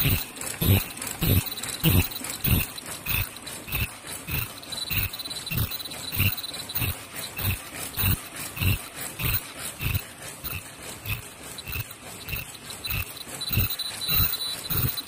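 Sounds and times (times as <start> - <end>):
faint high machine whine: 0.0 - 15.0.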